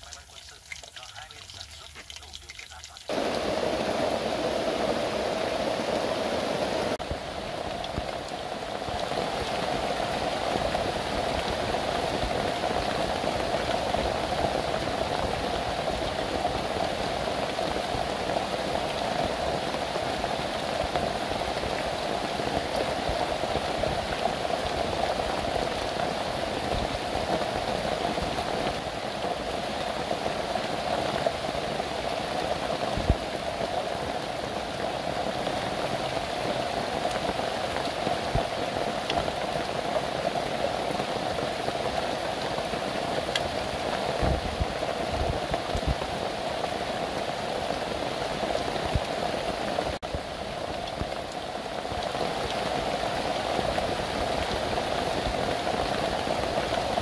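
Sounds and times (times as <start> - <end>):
heavy rain on thatched roof: 0.0 - 57.0.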